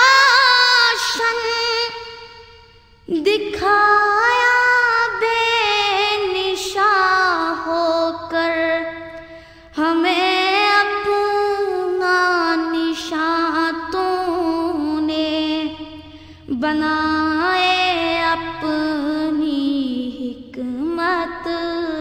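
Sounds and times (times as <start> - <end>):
person singing unaccompanied: 0.0 - 2.4, 3.1 - 22.0.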